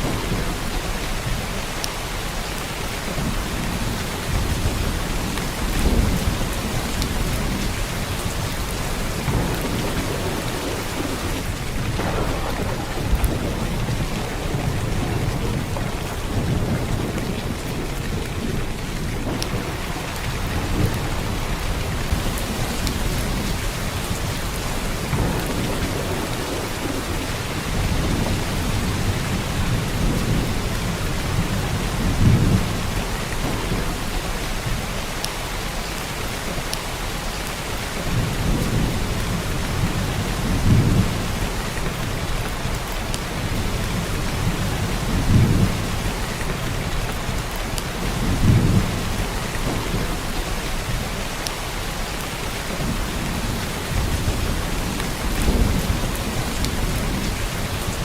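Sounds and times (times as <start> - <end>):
heavy rain downpour: 0.0 - 58.0.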